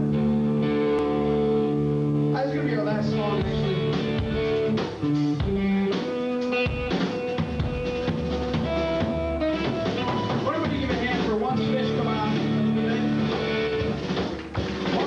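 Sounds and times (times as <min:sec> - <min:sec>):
electric guitar chords: 0:00.0 - 0:14.9
drum kit: 0:00.0 - 0:15.0.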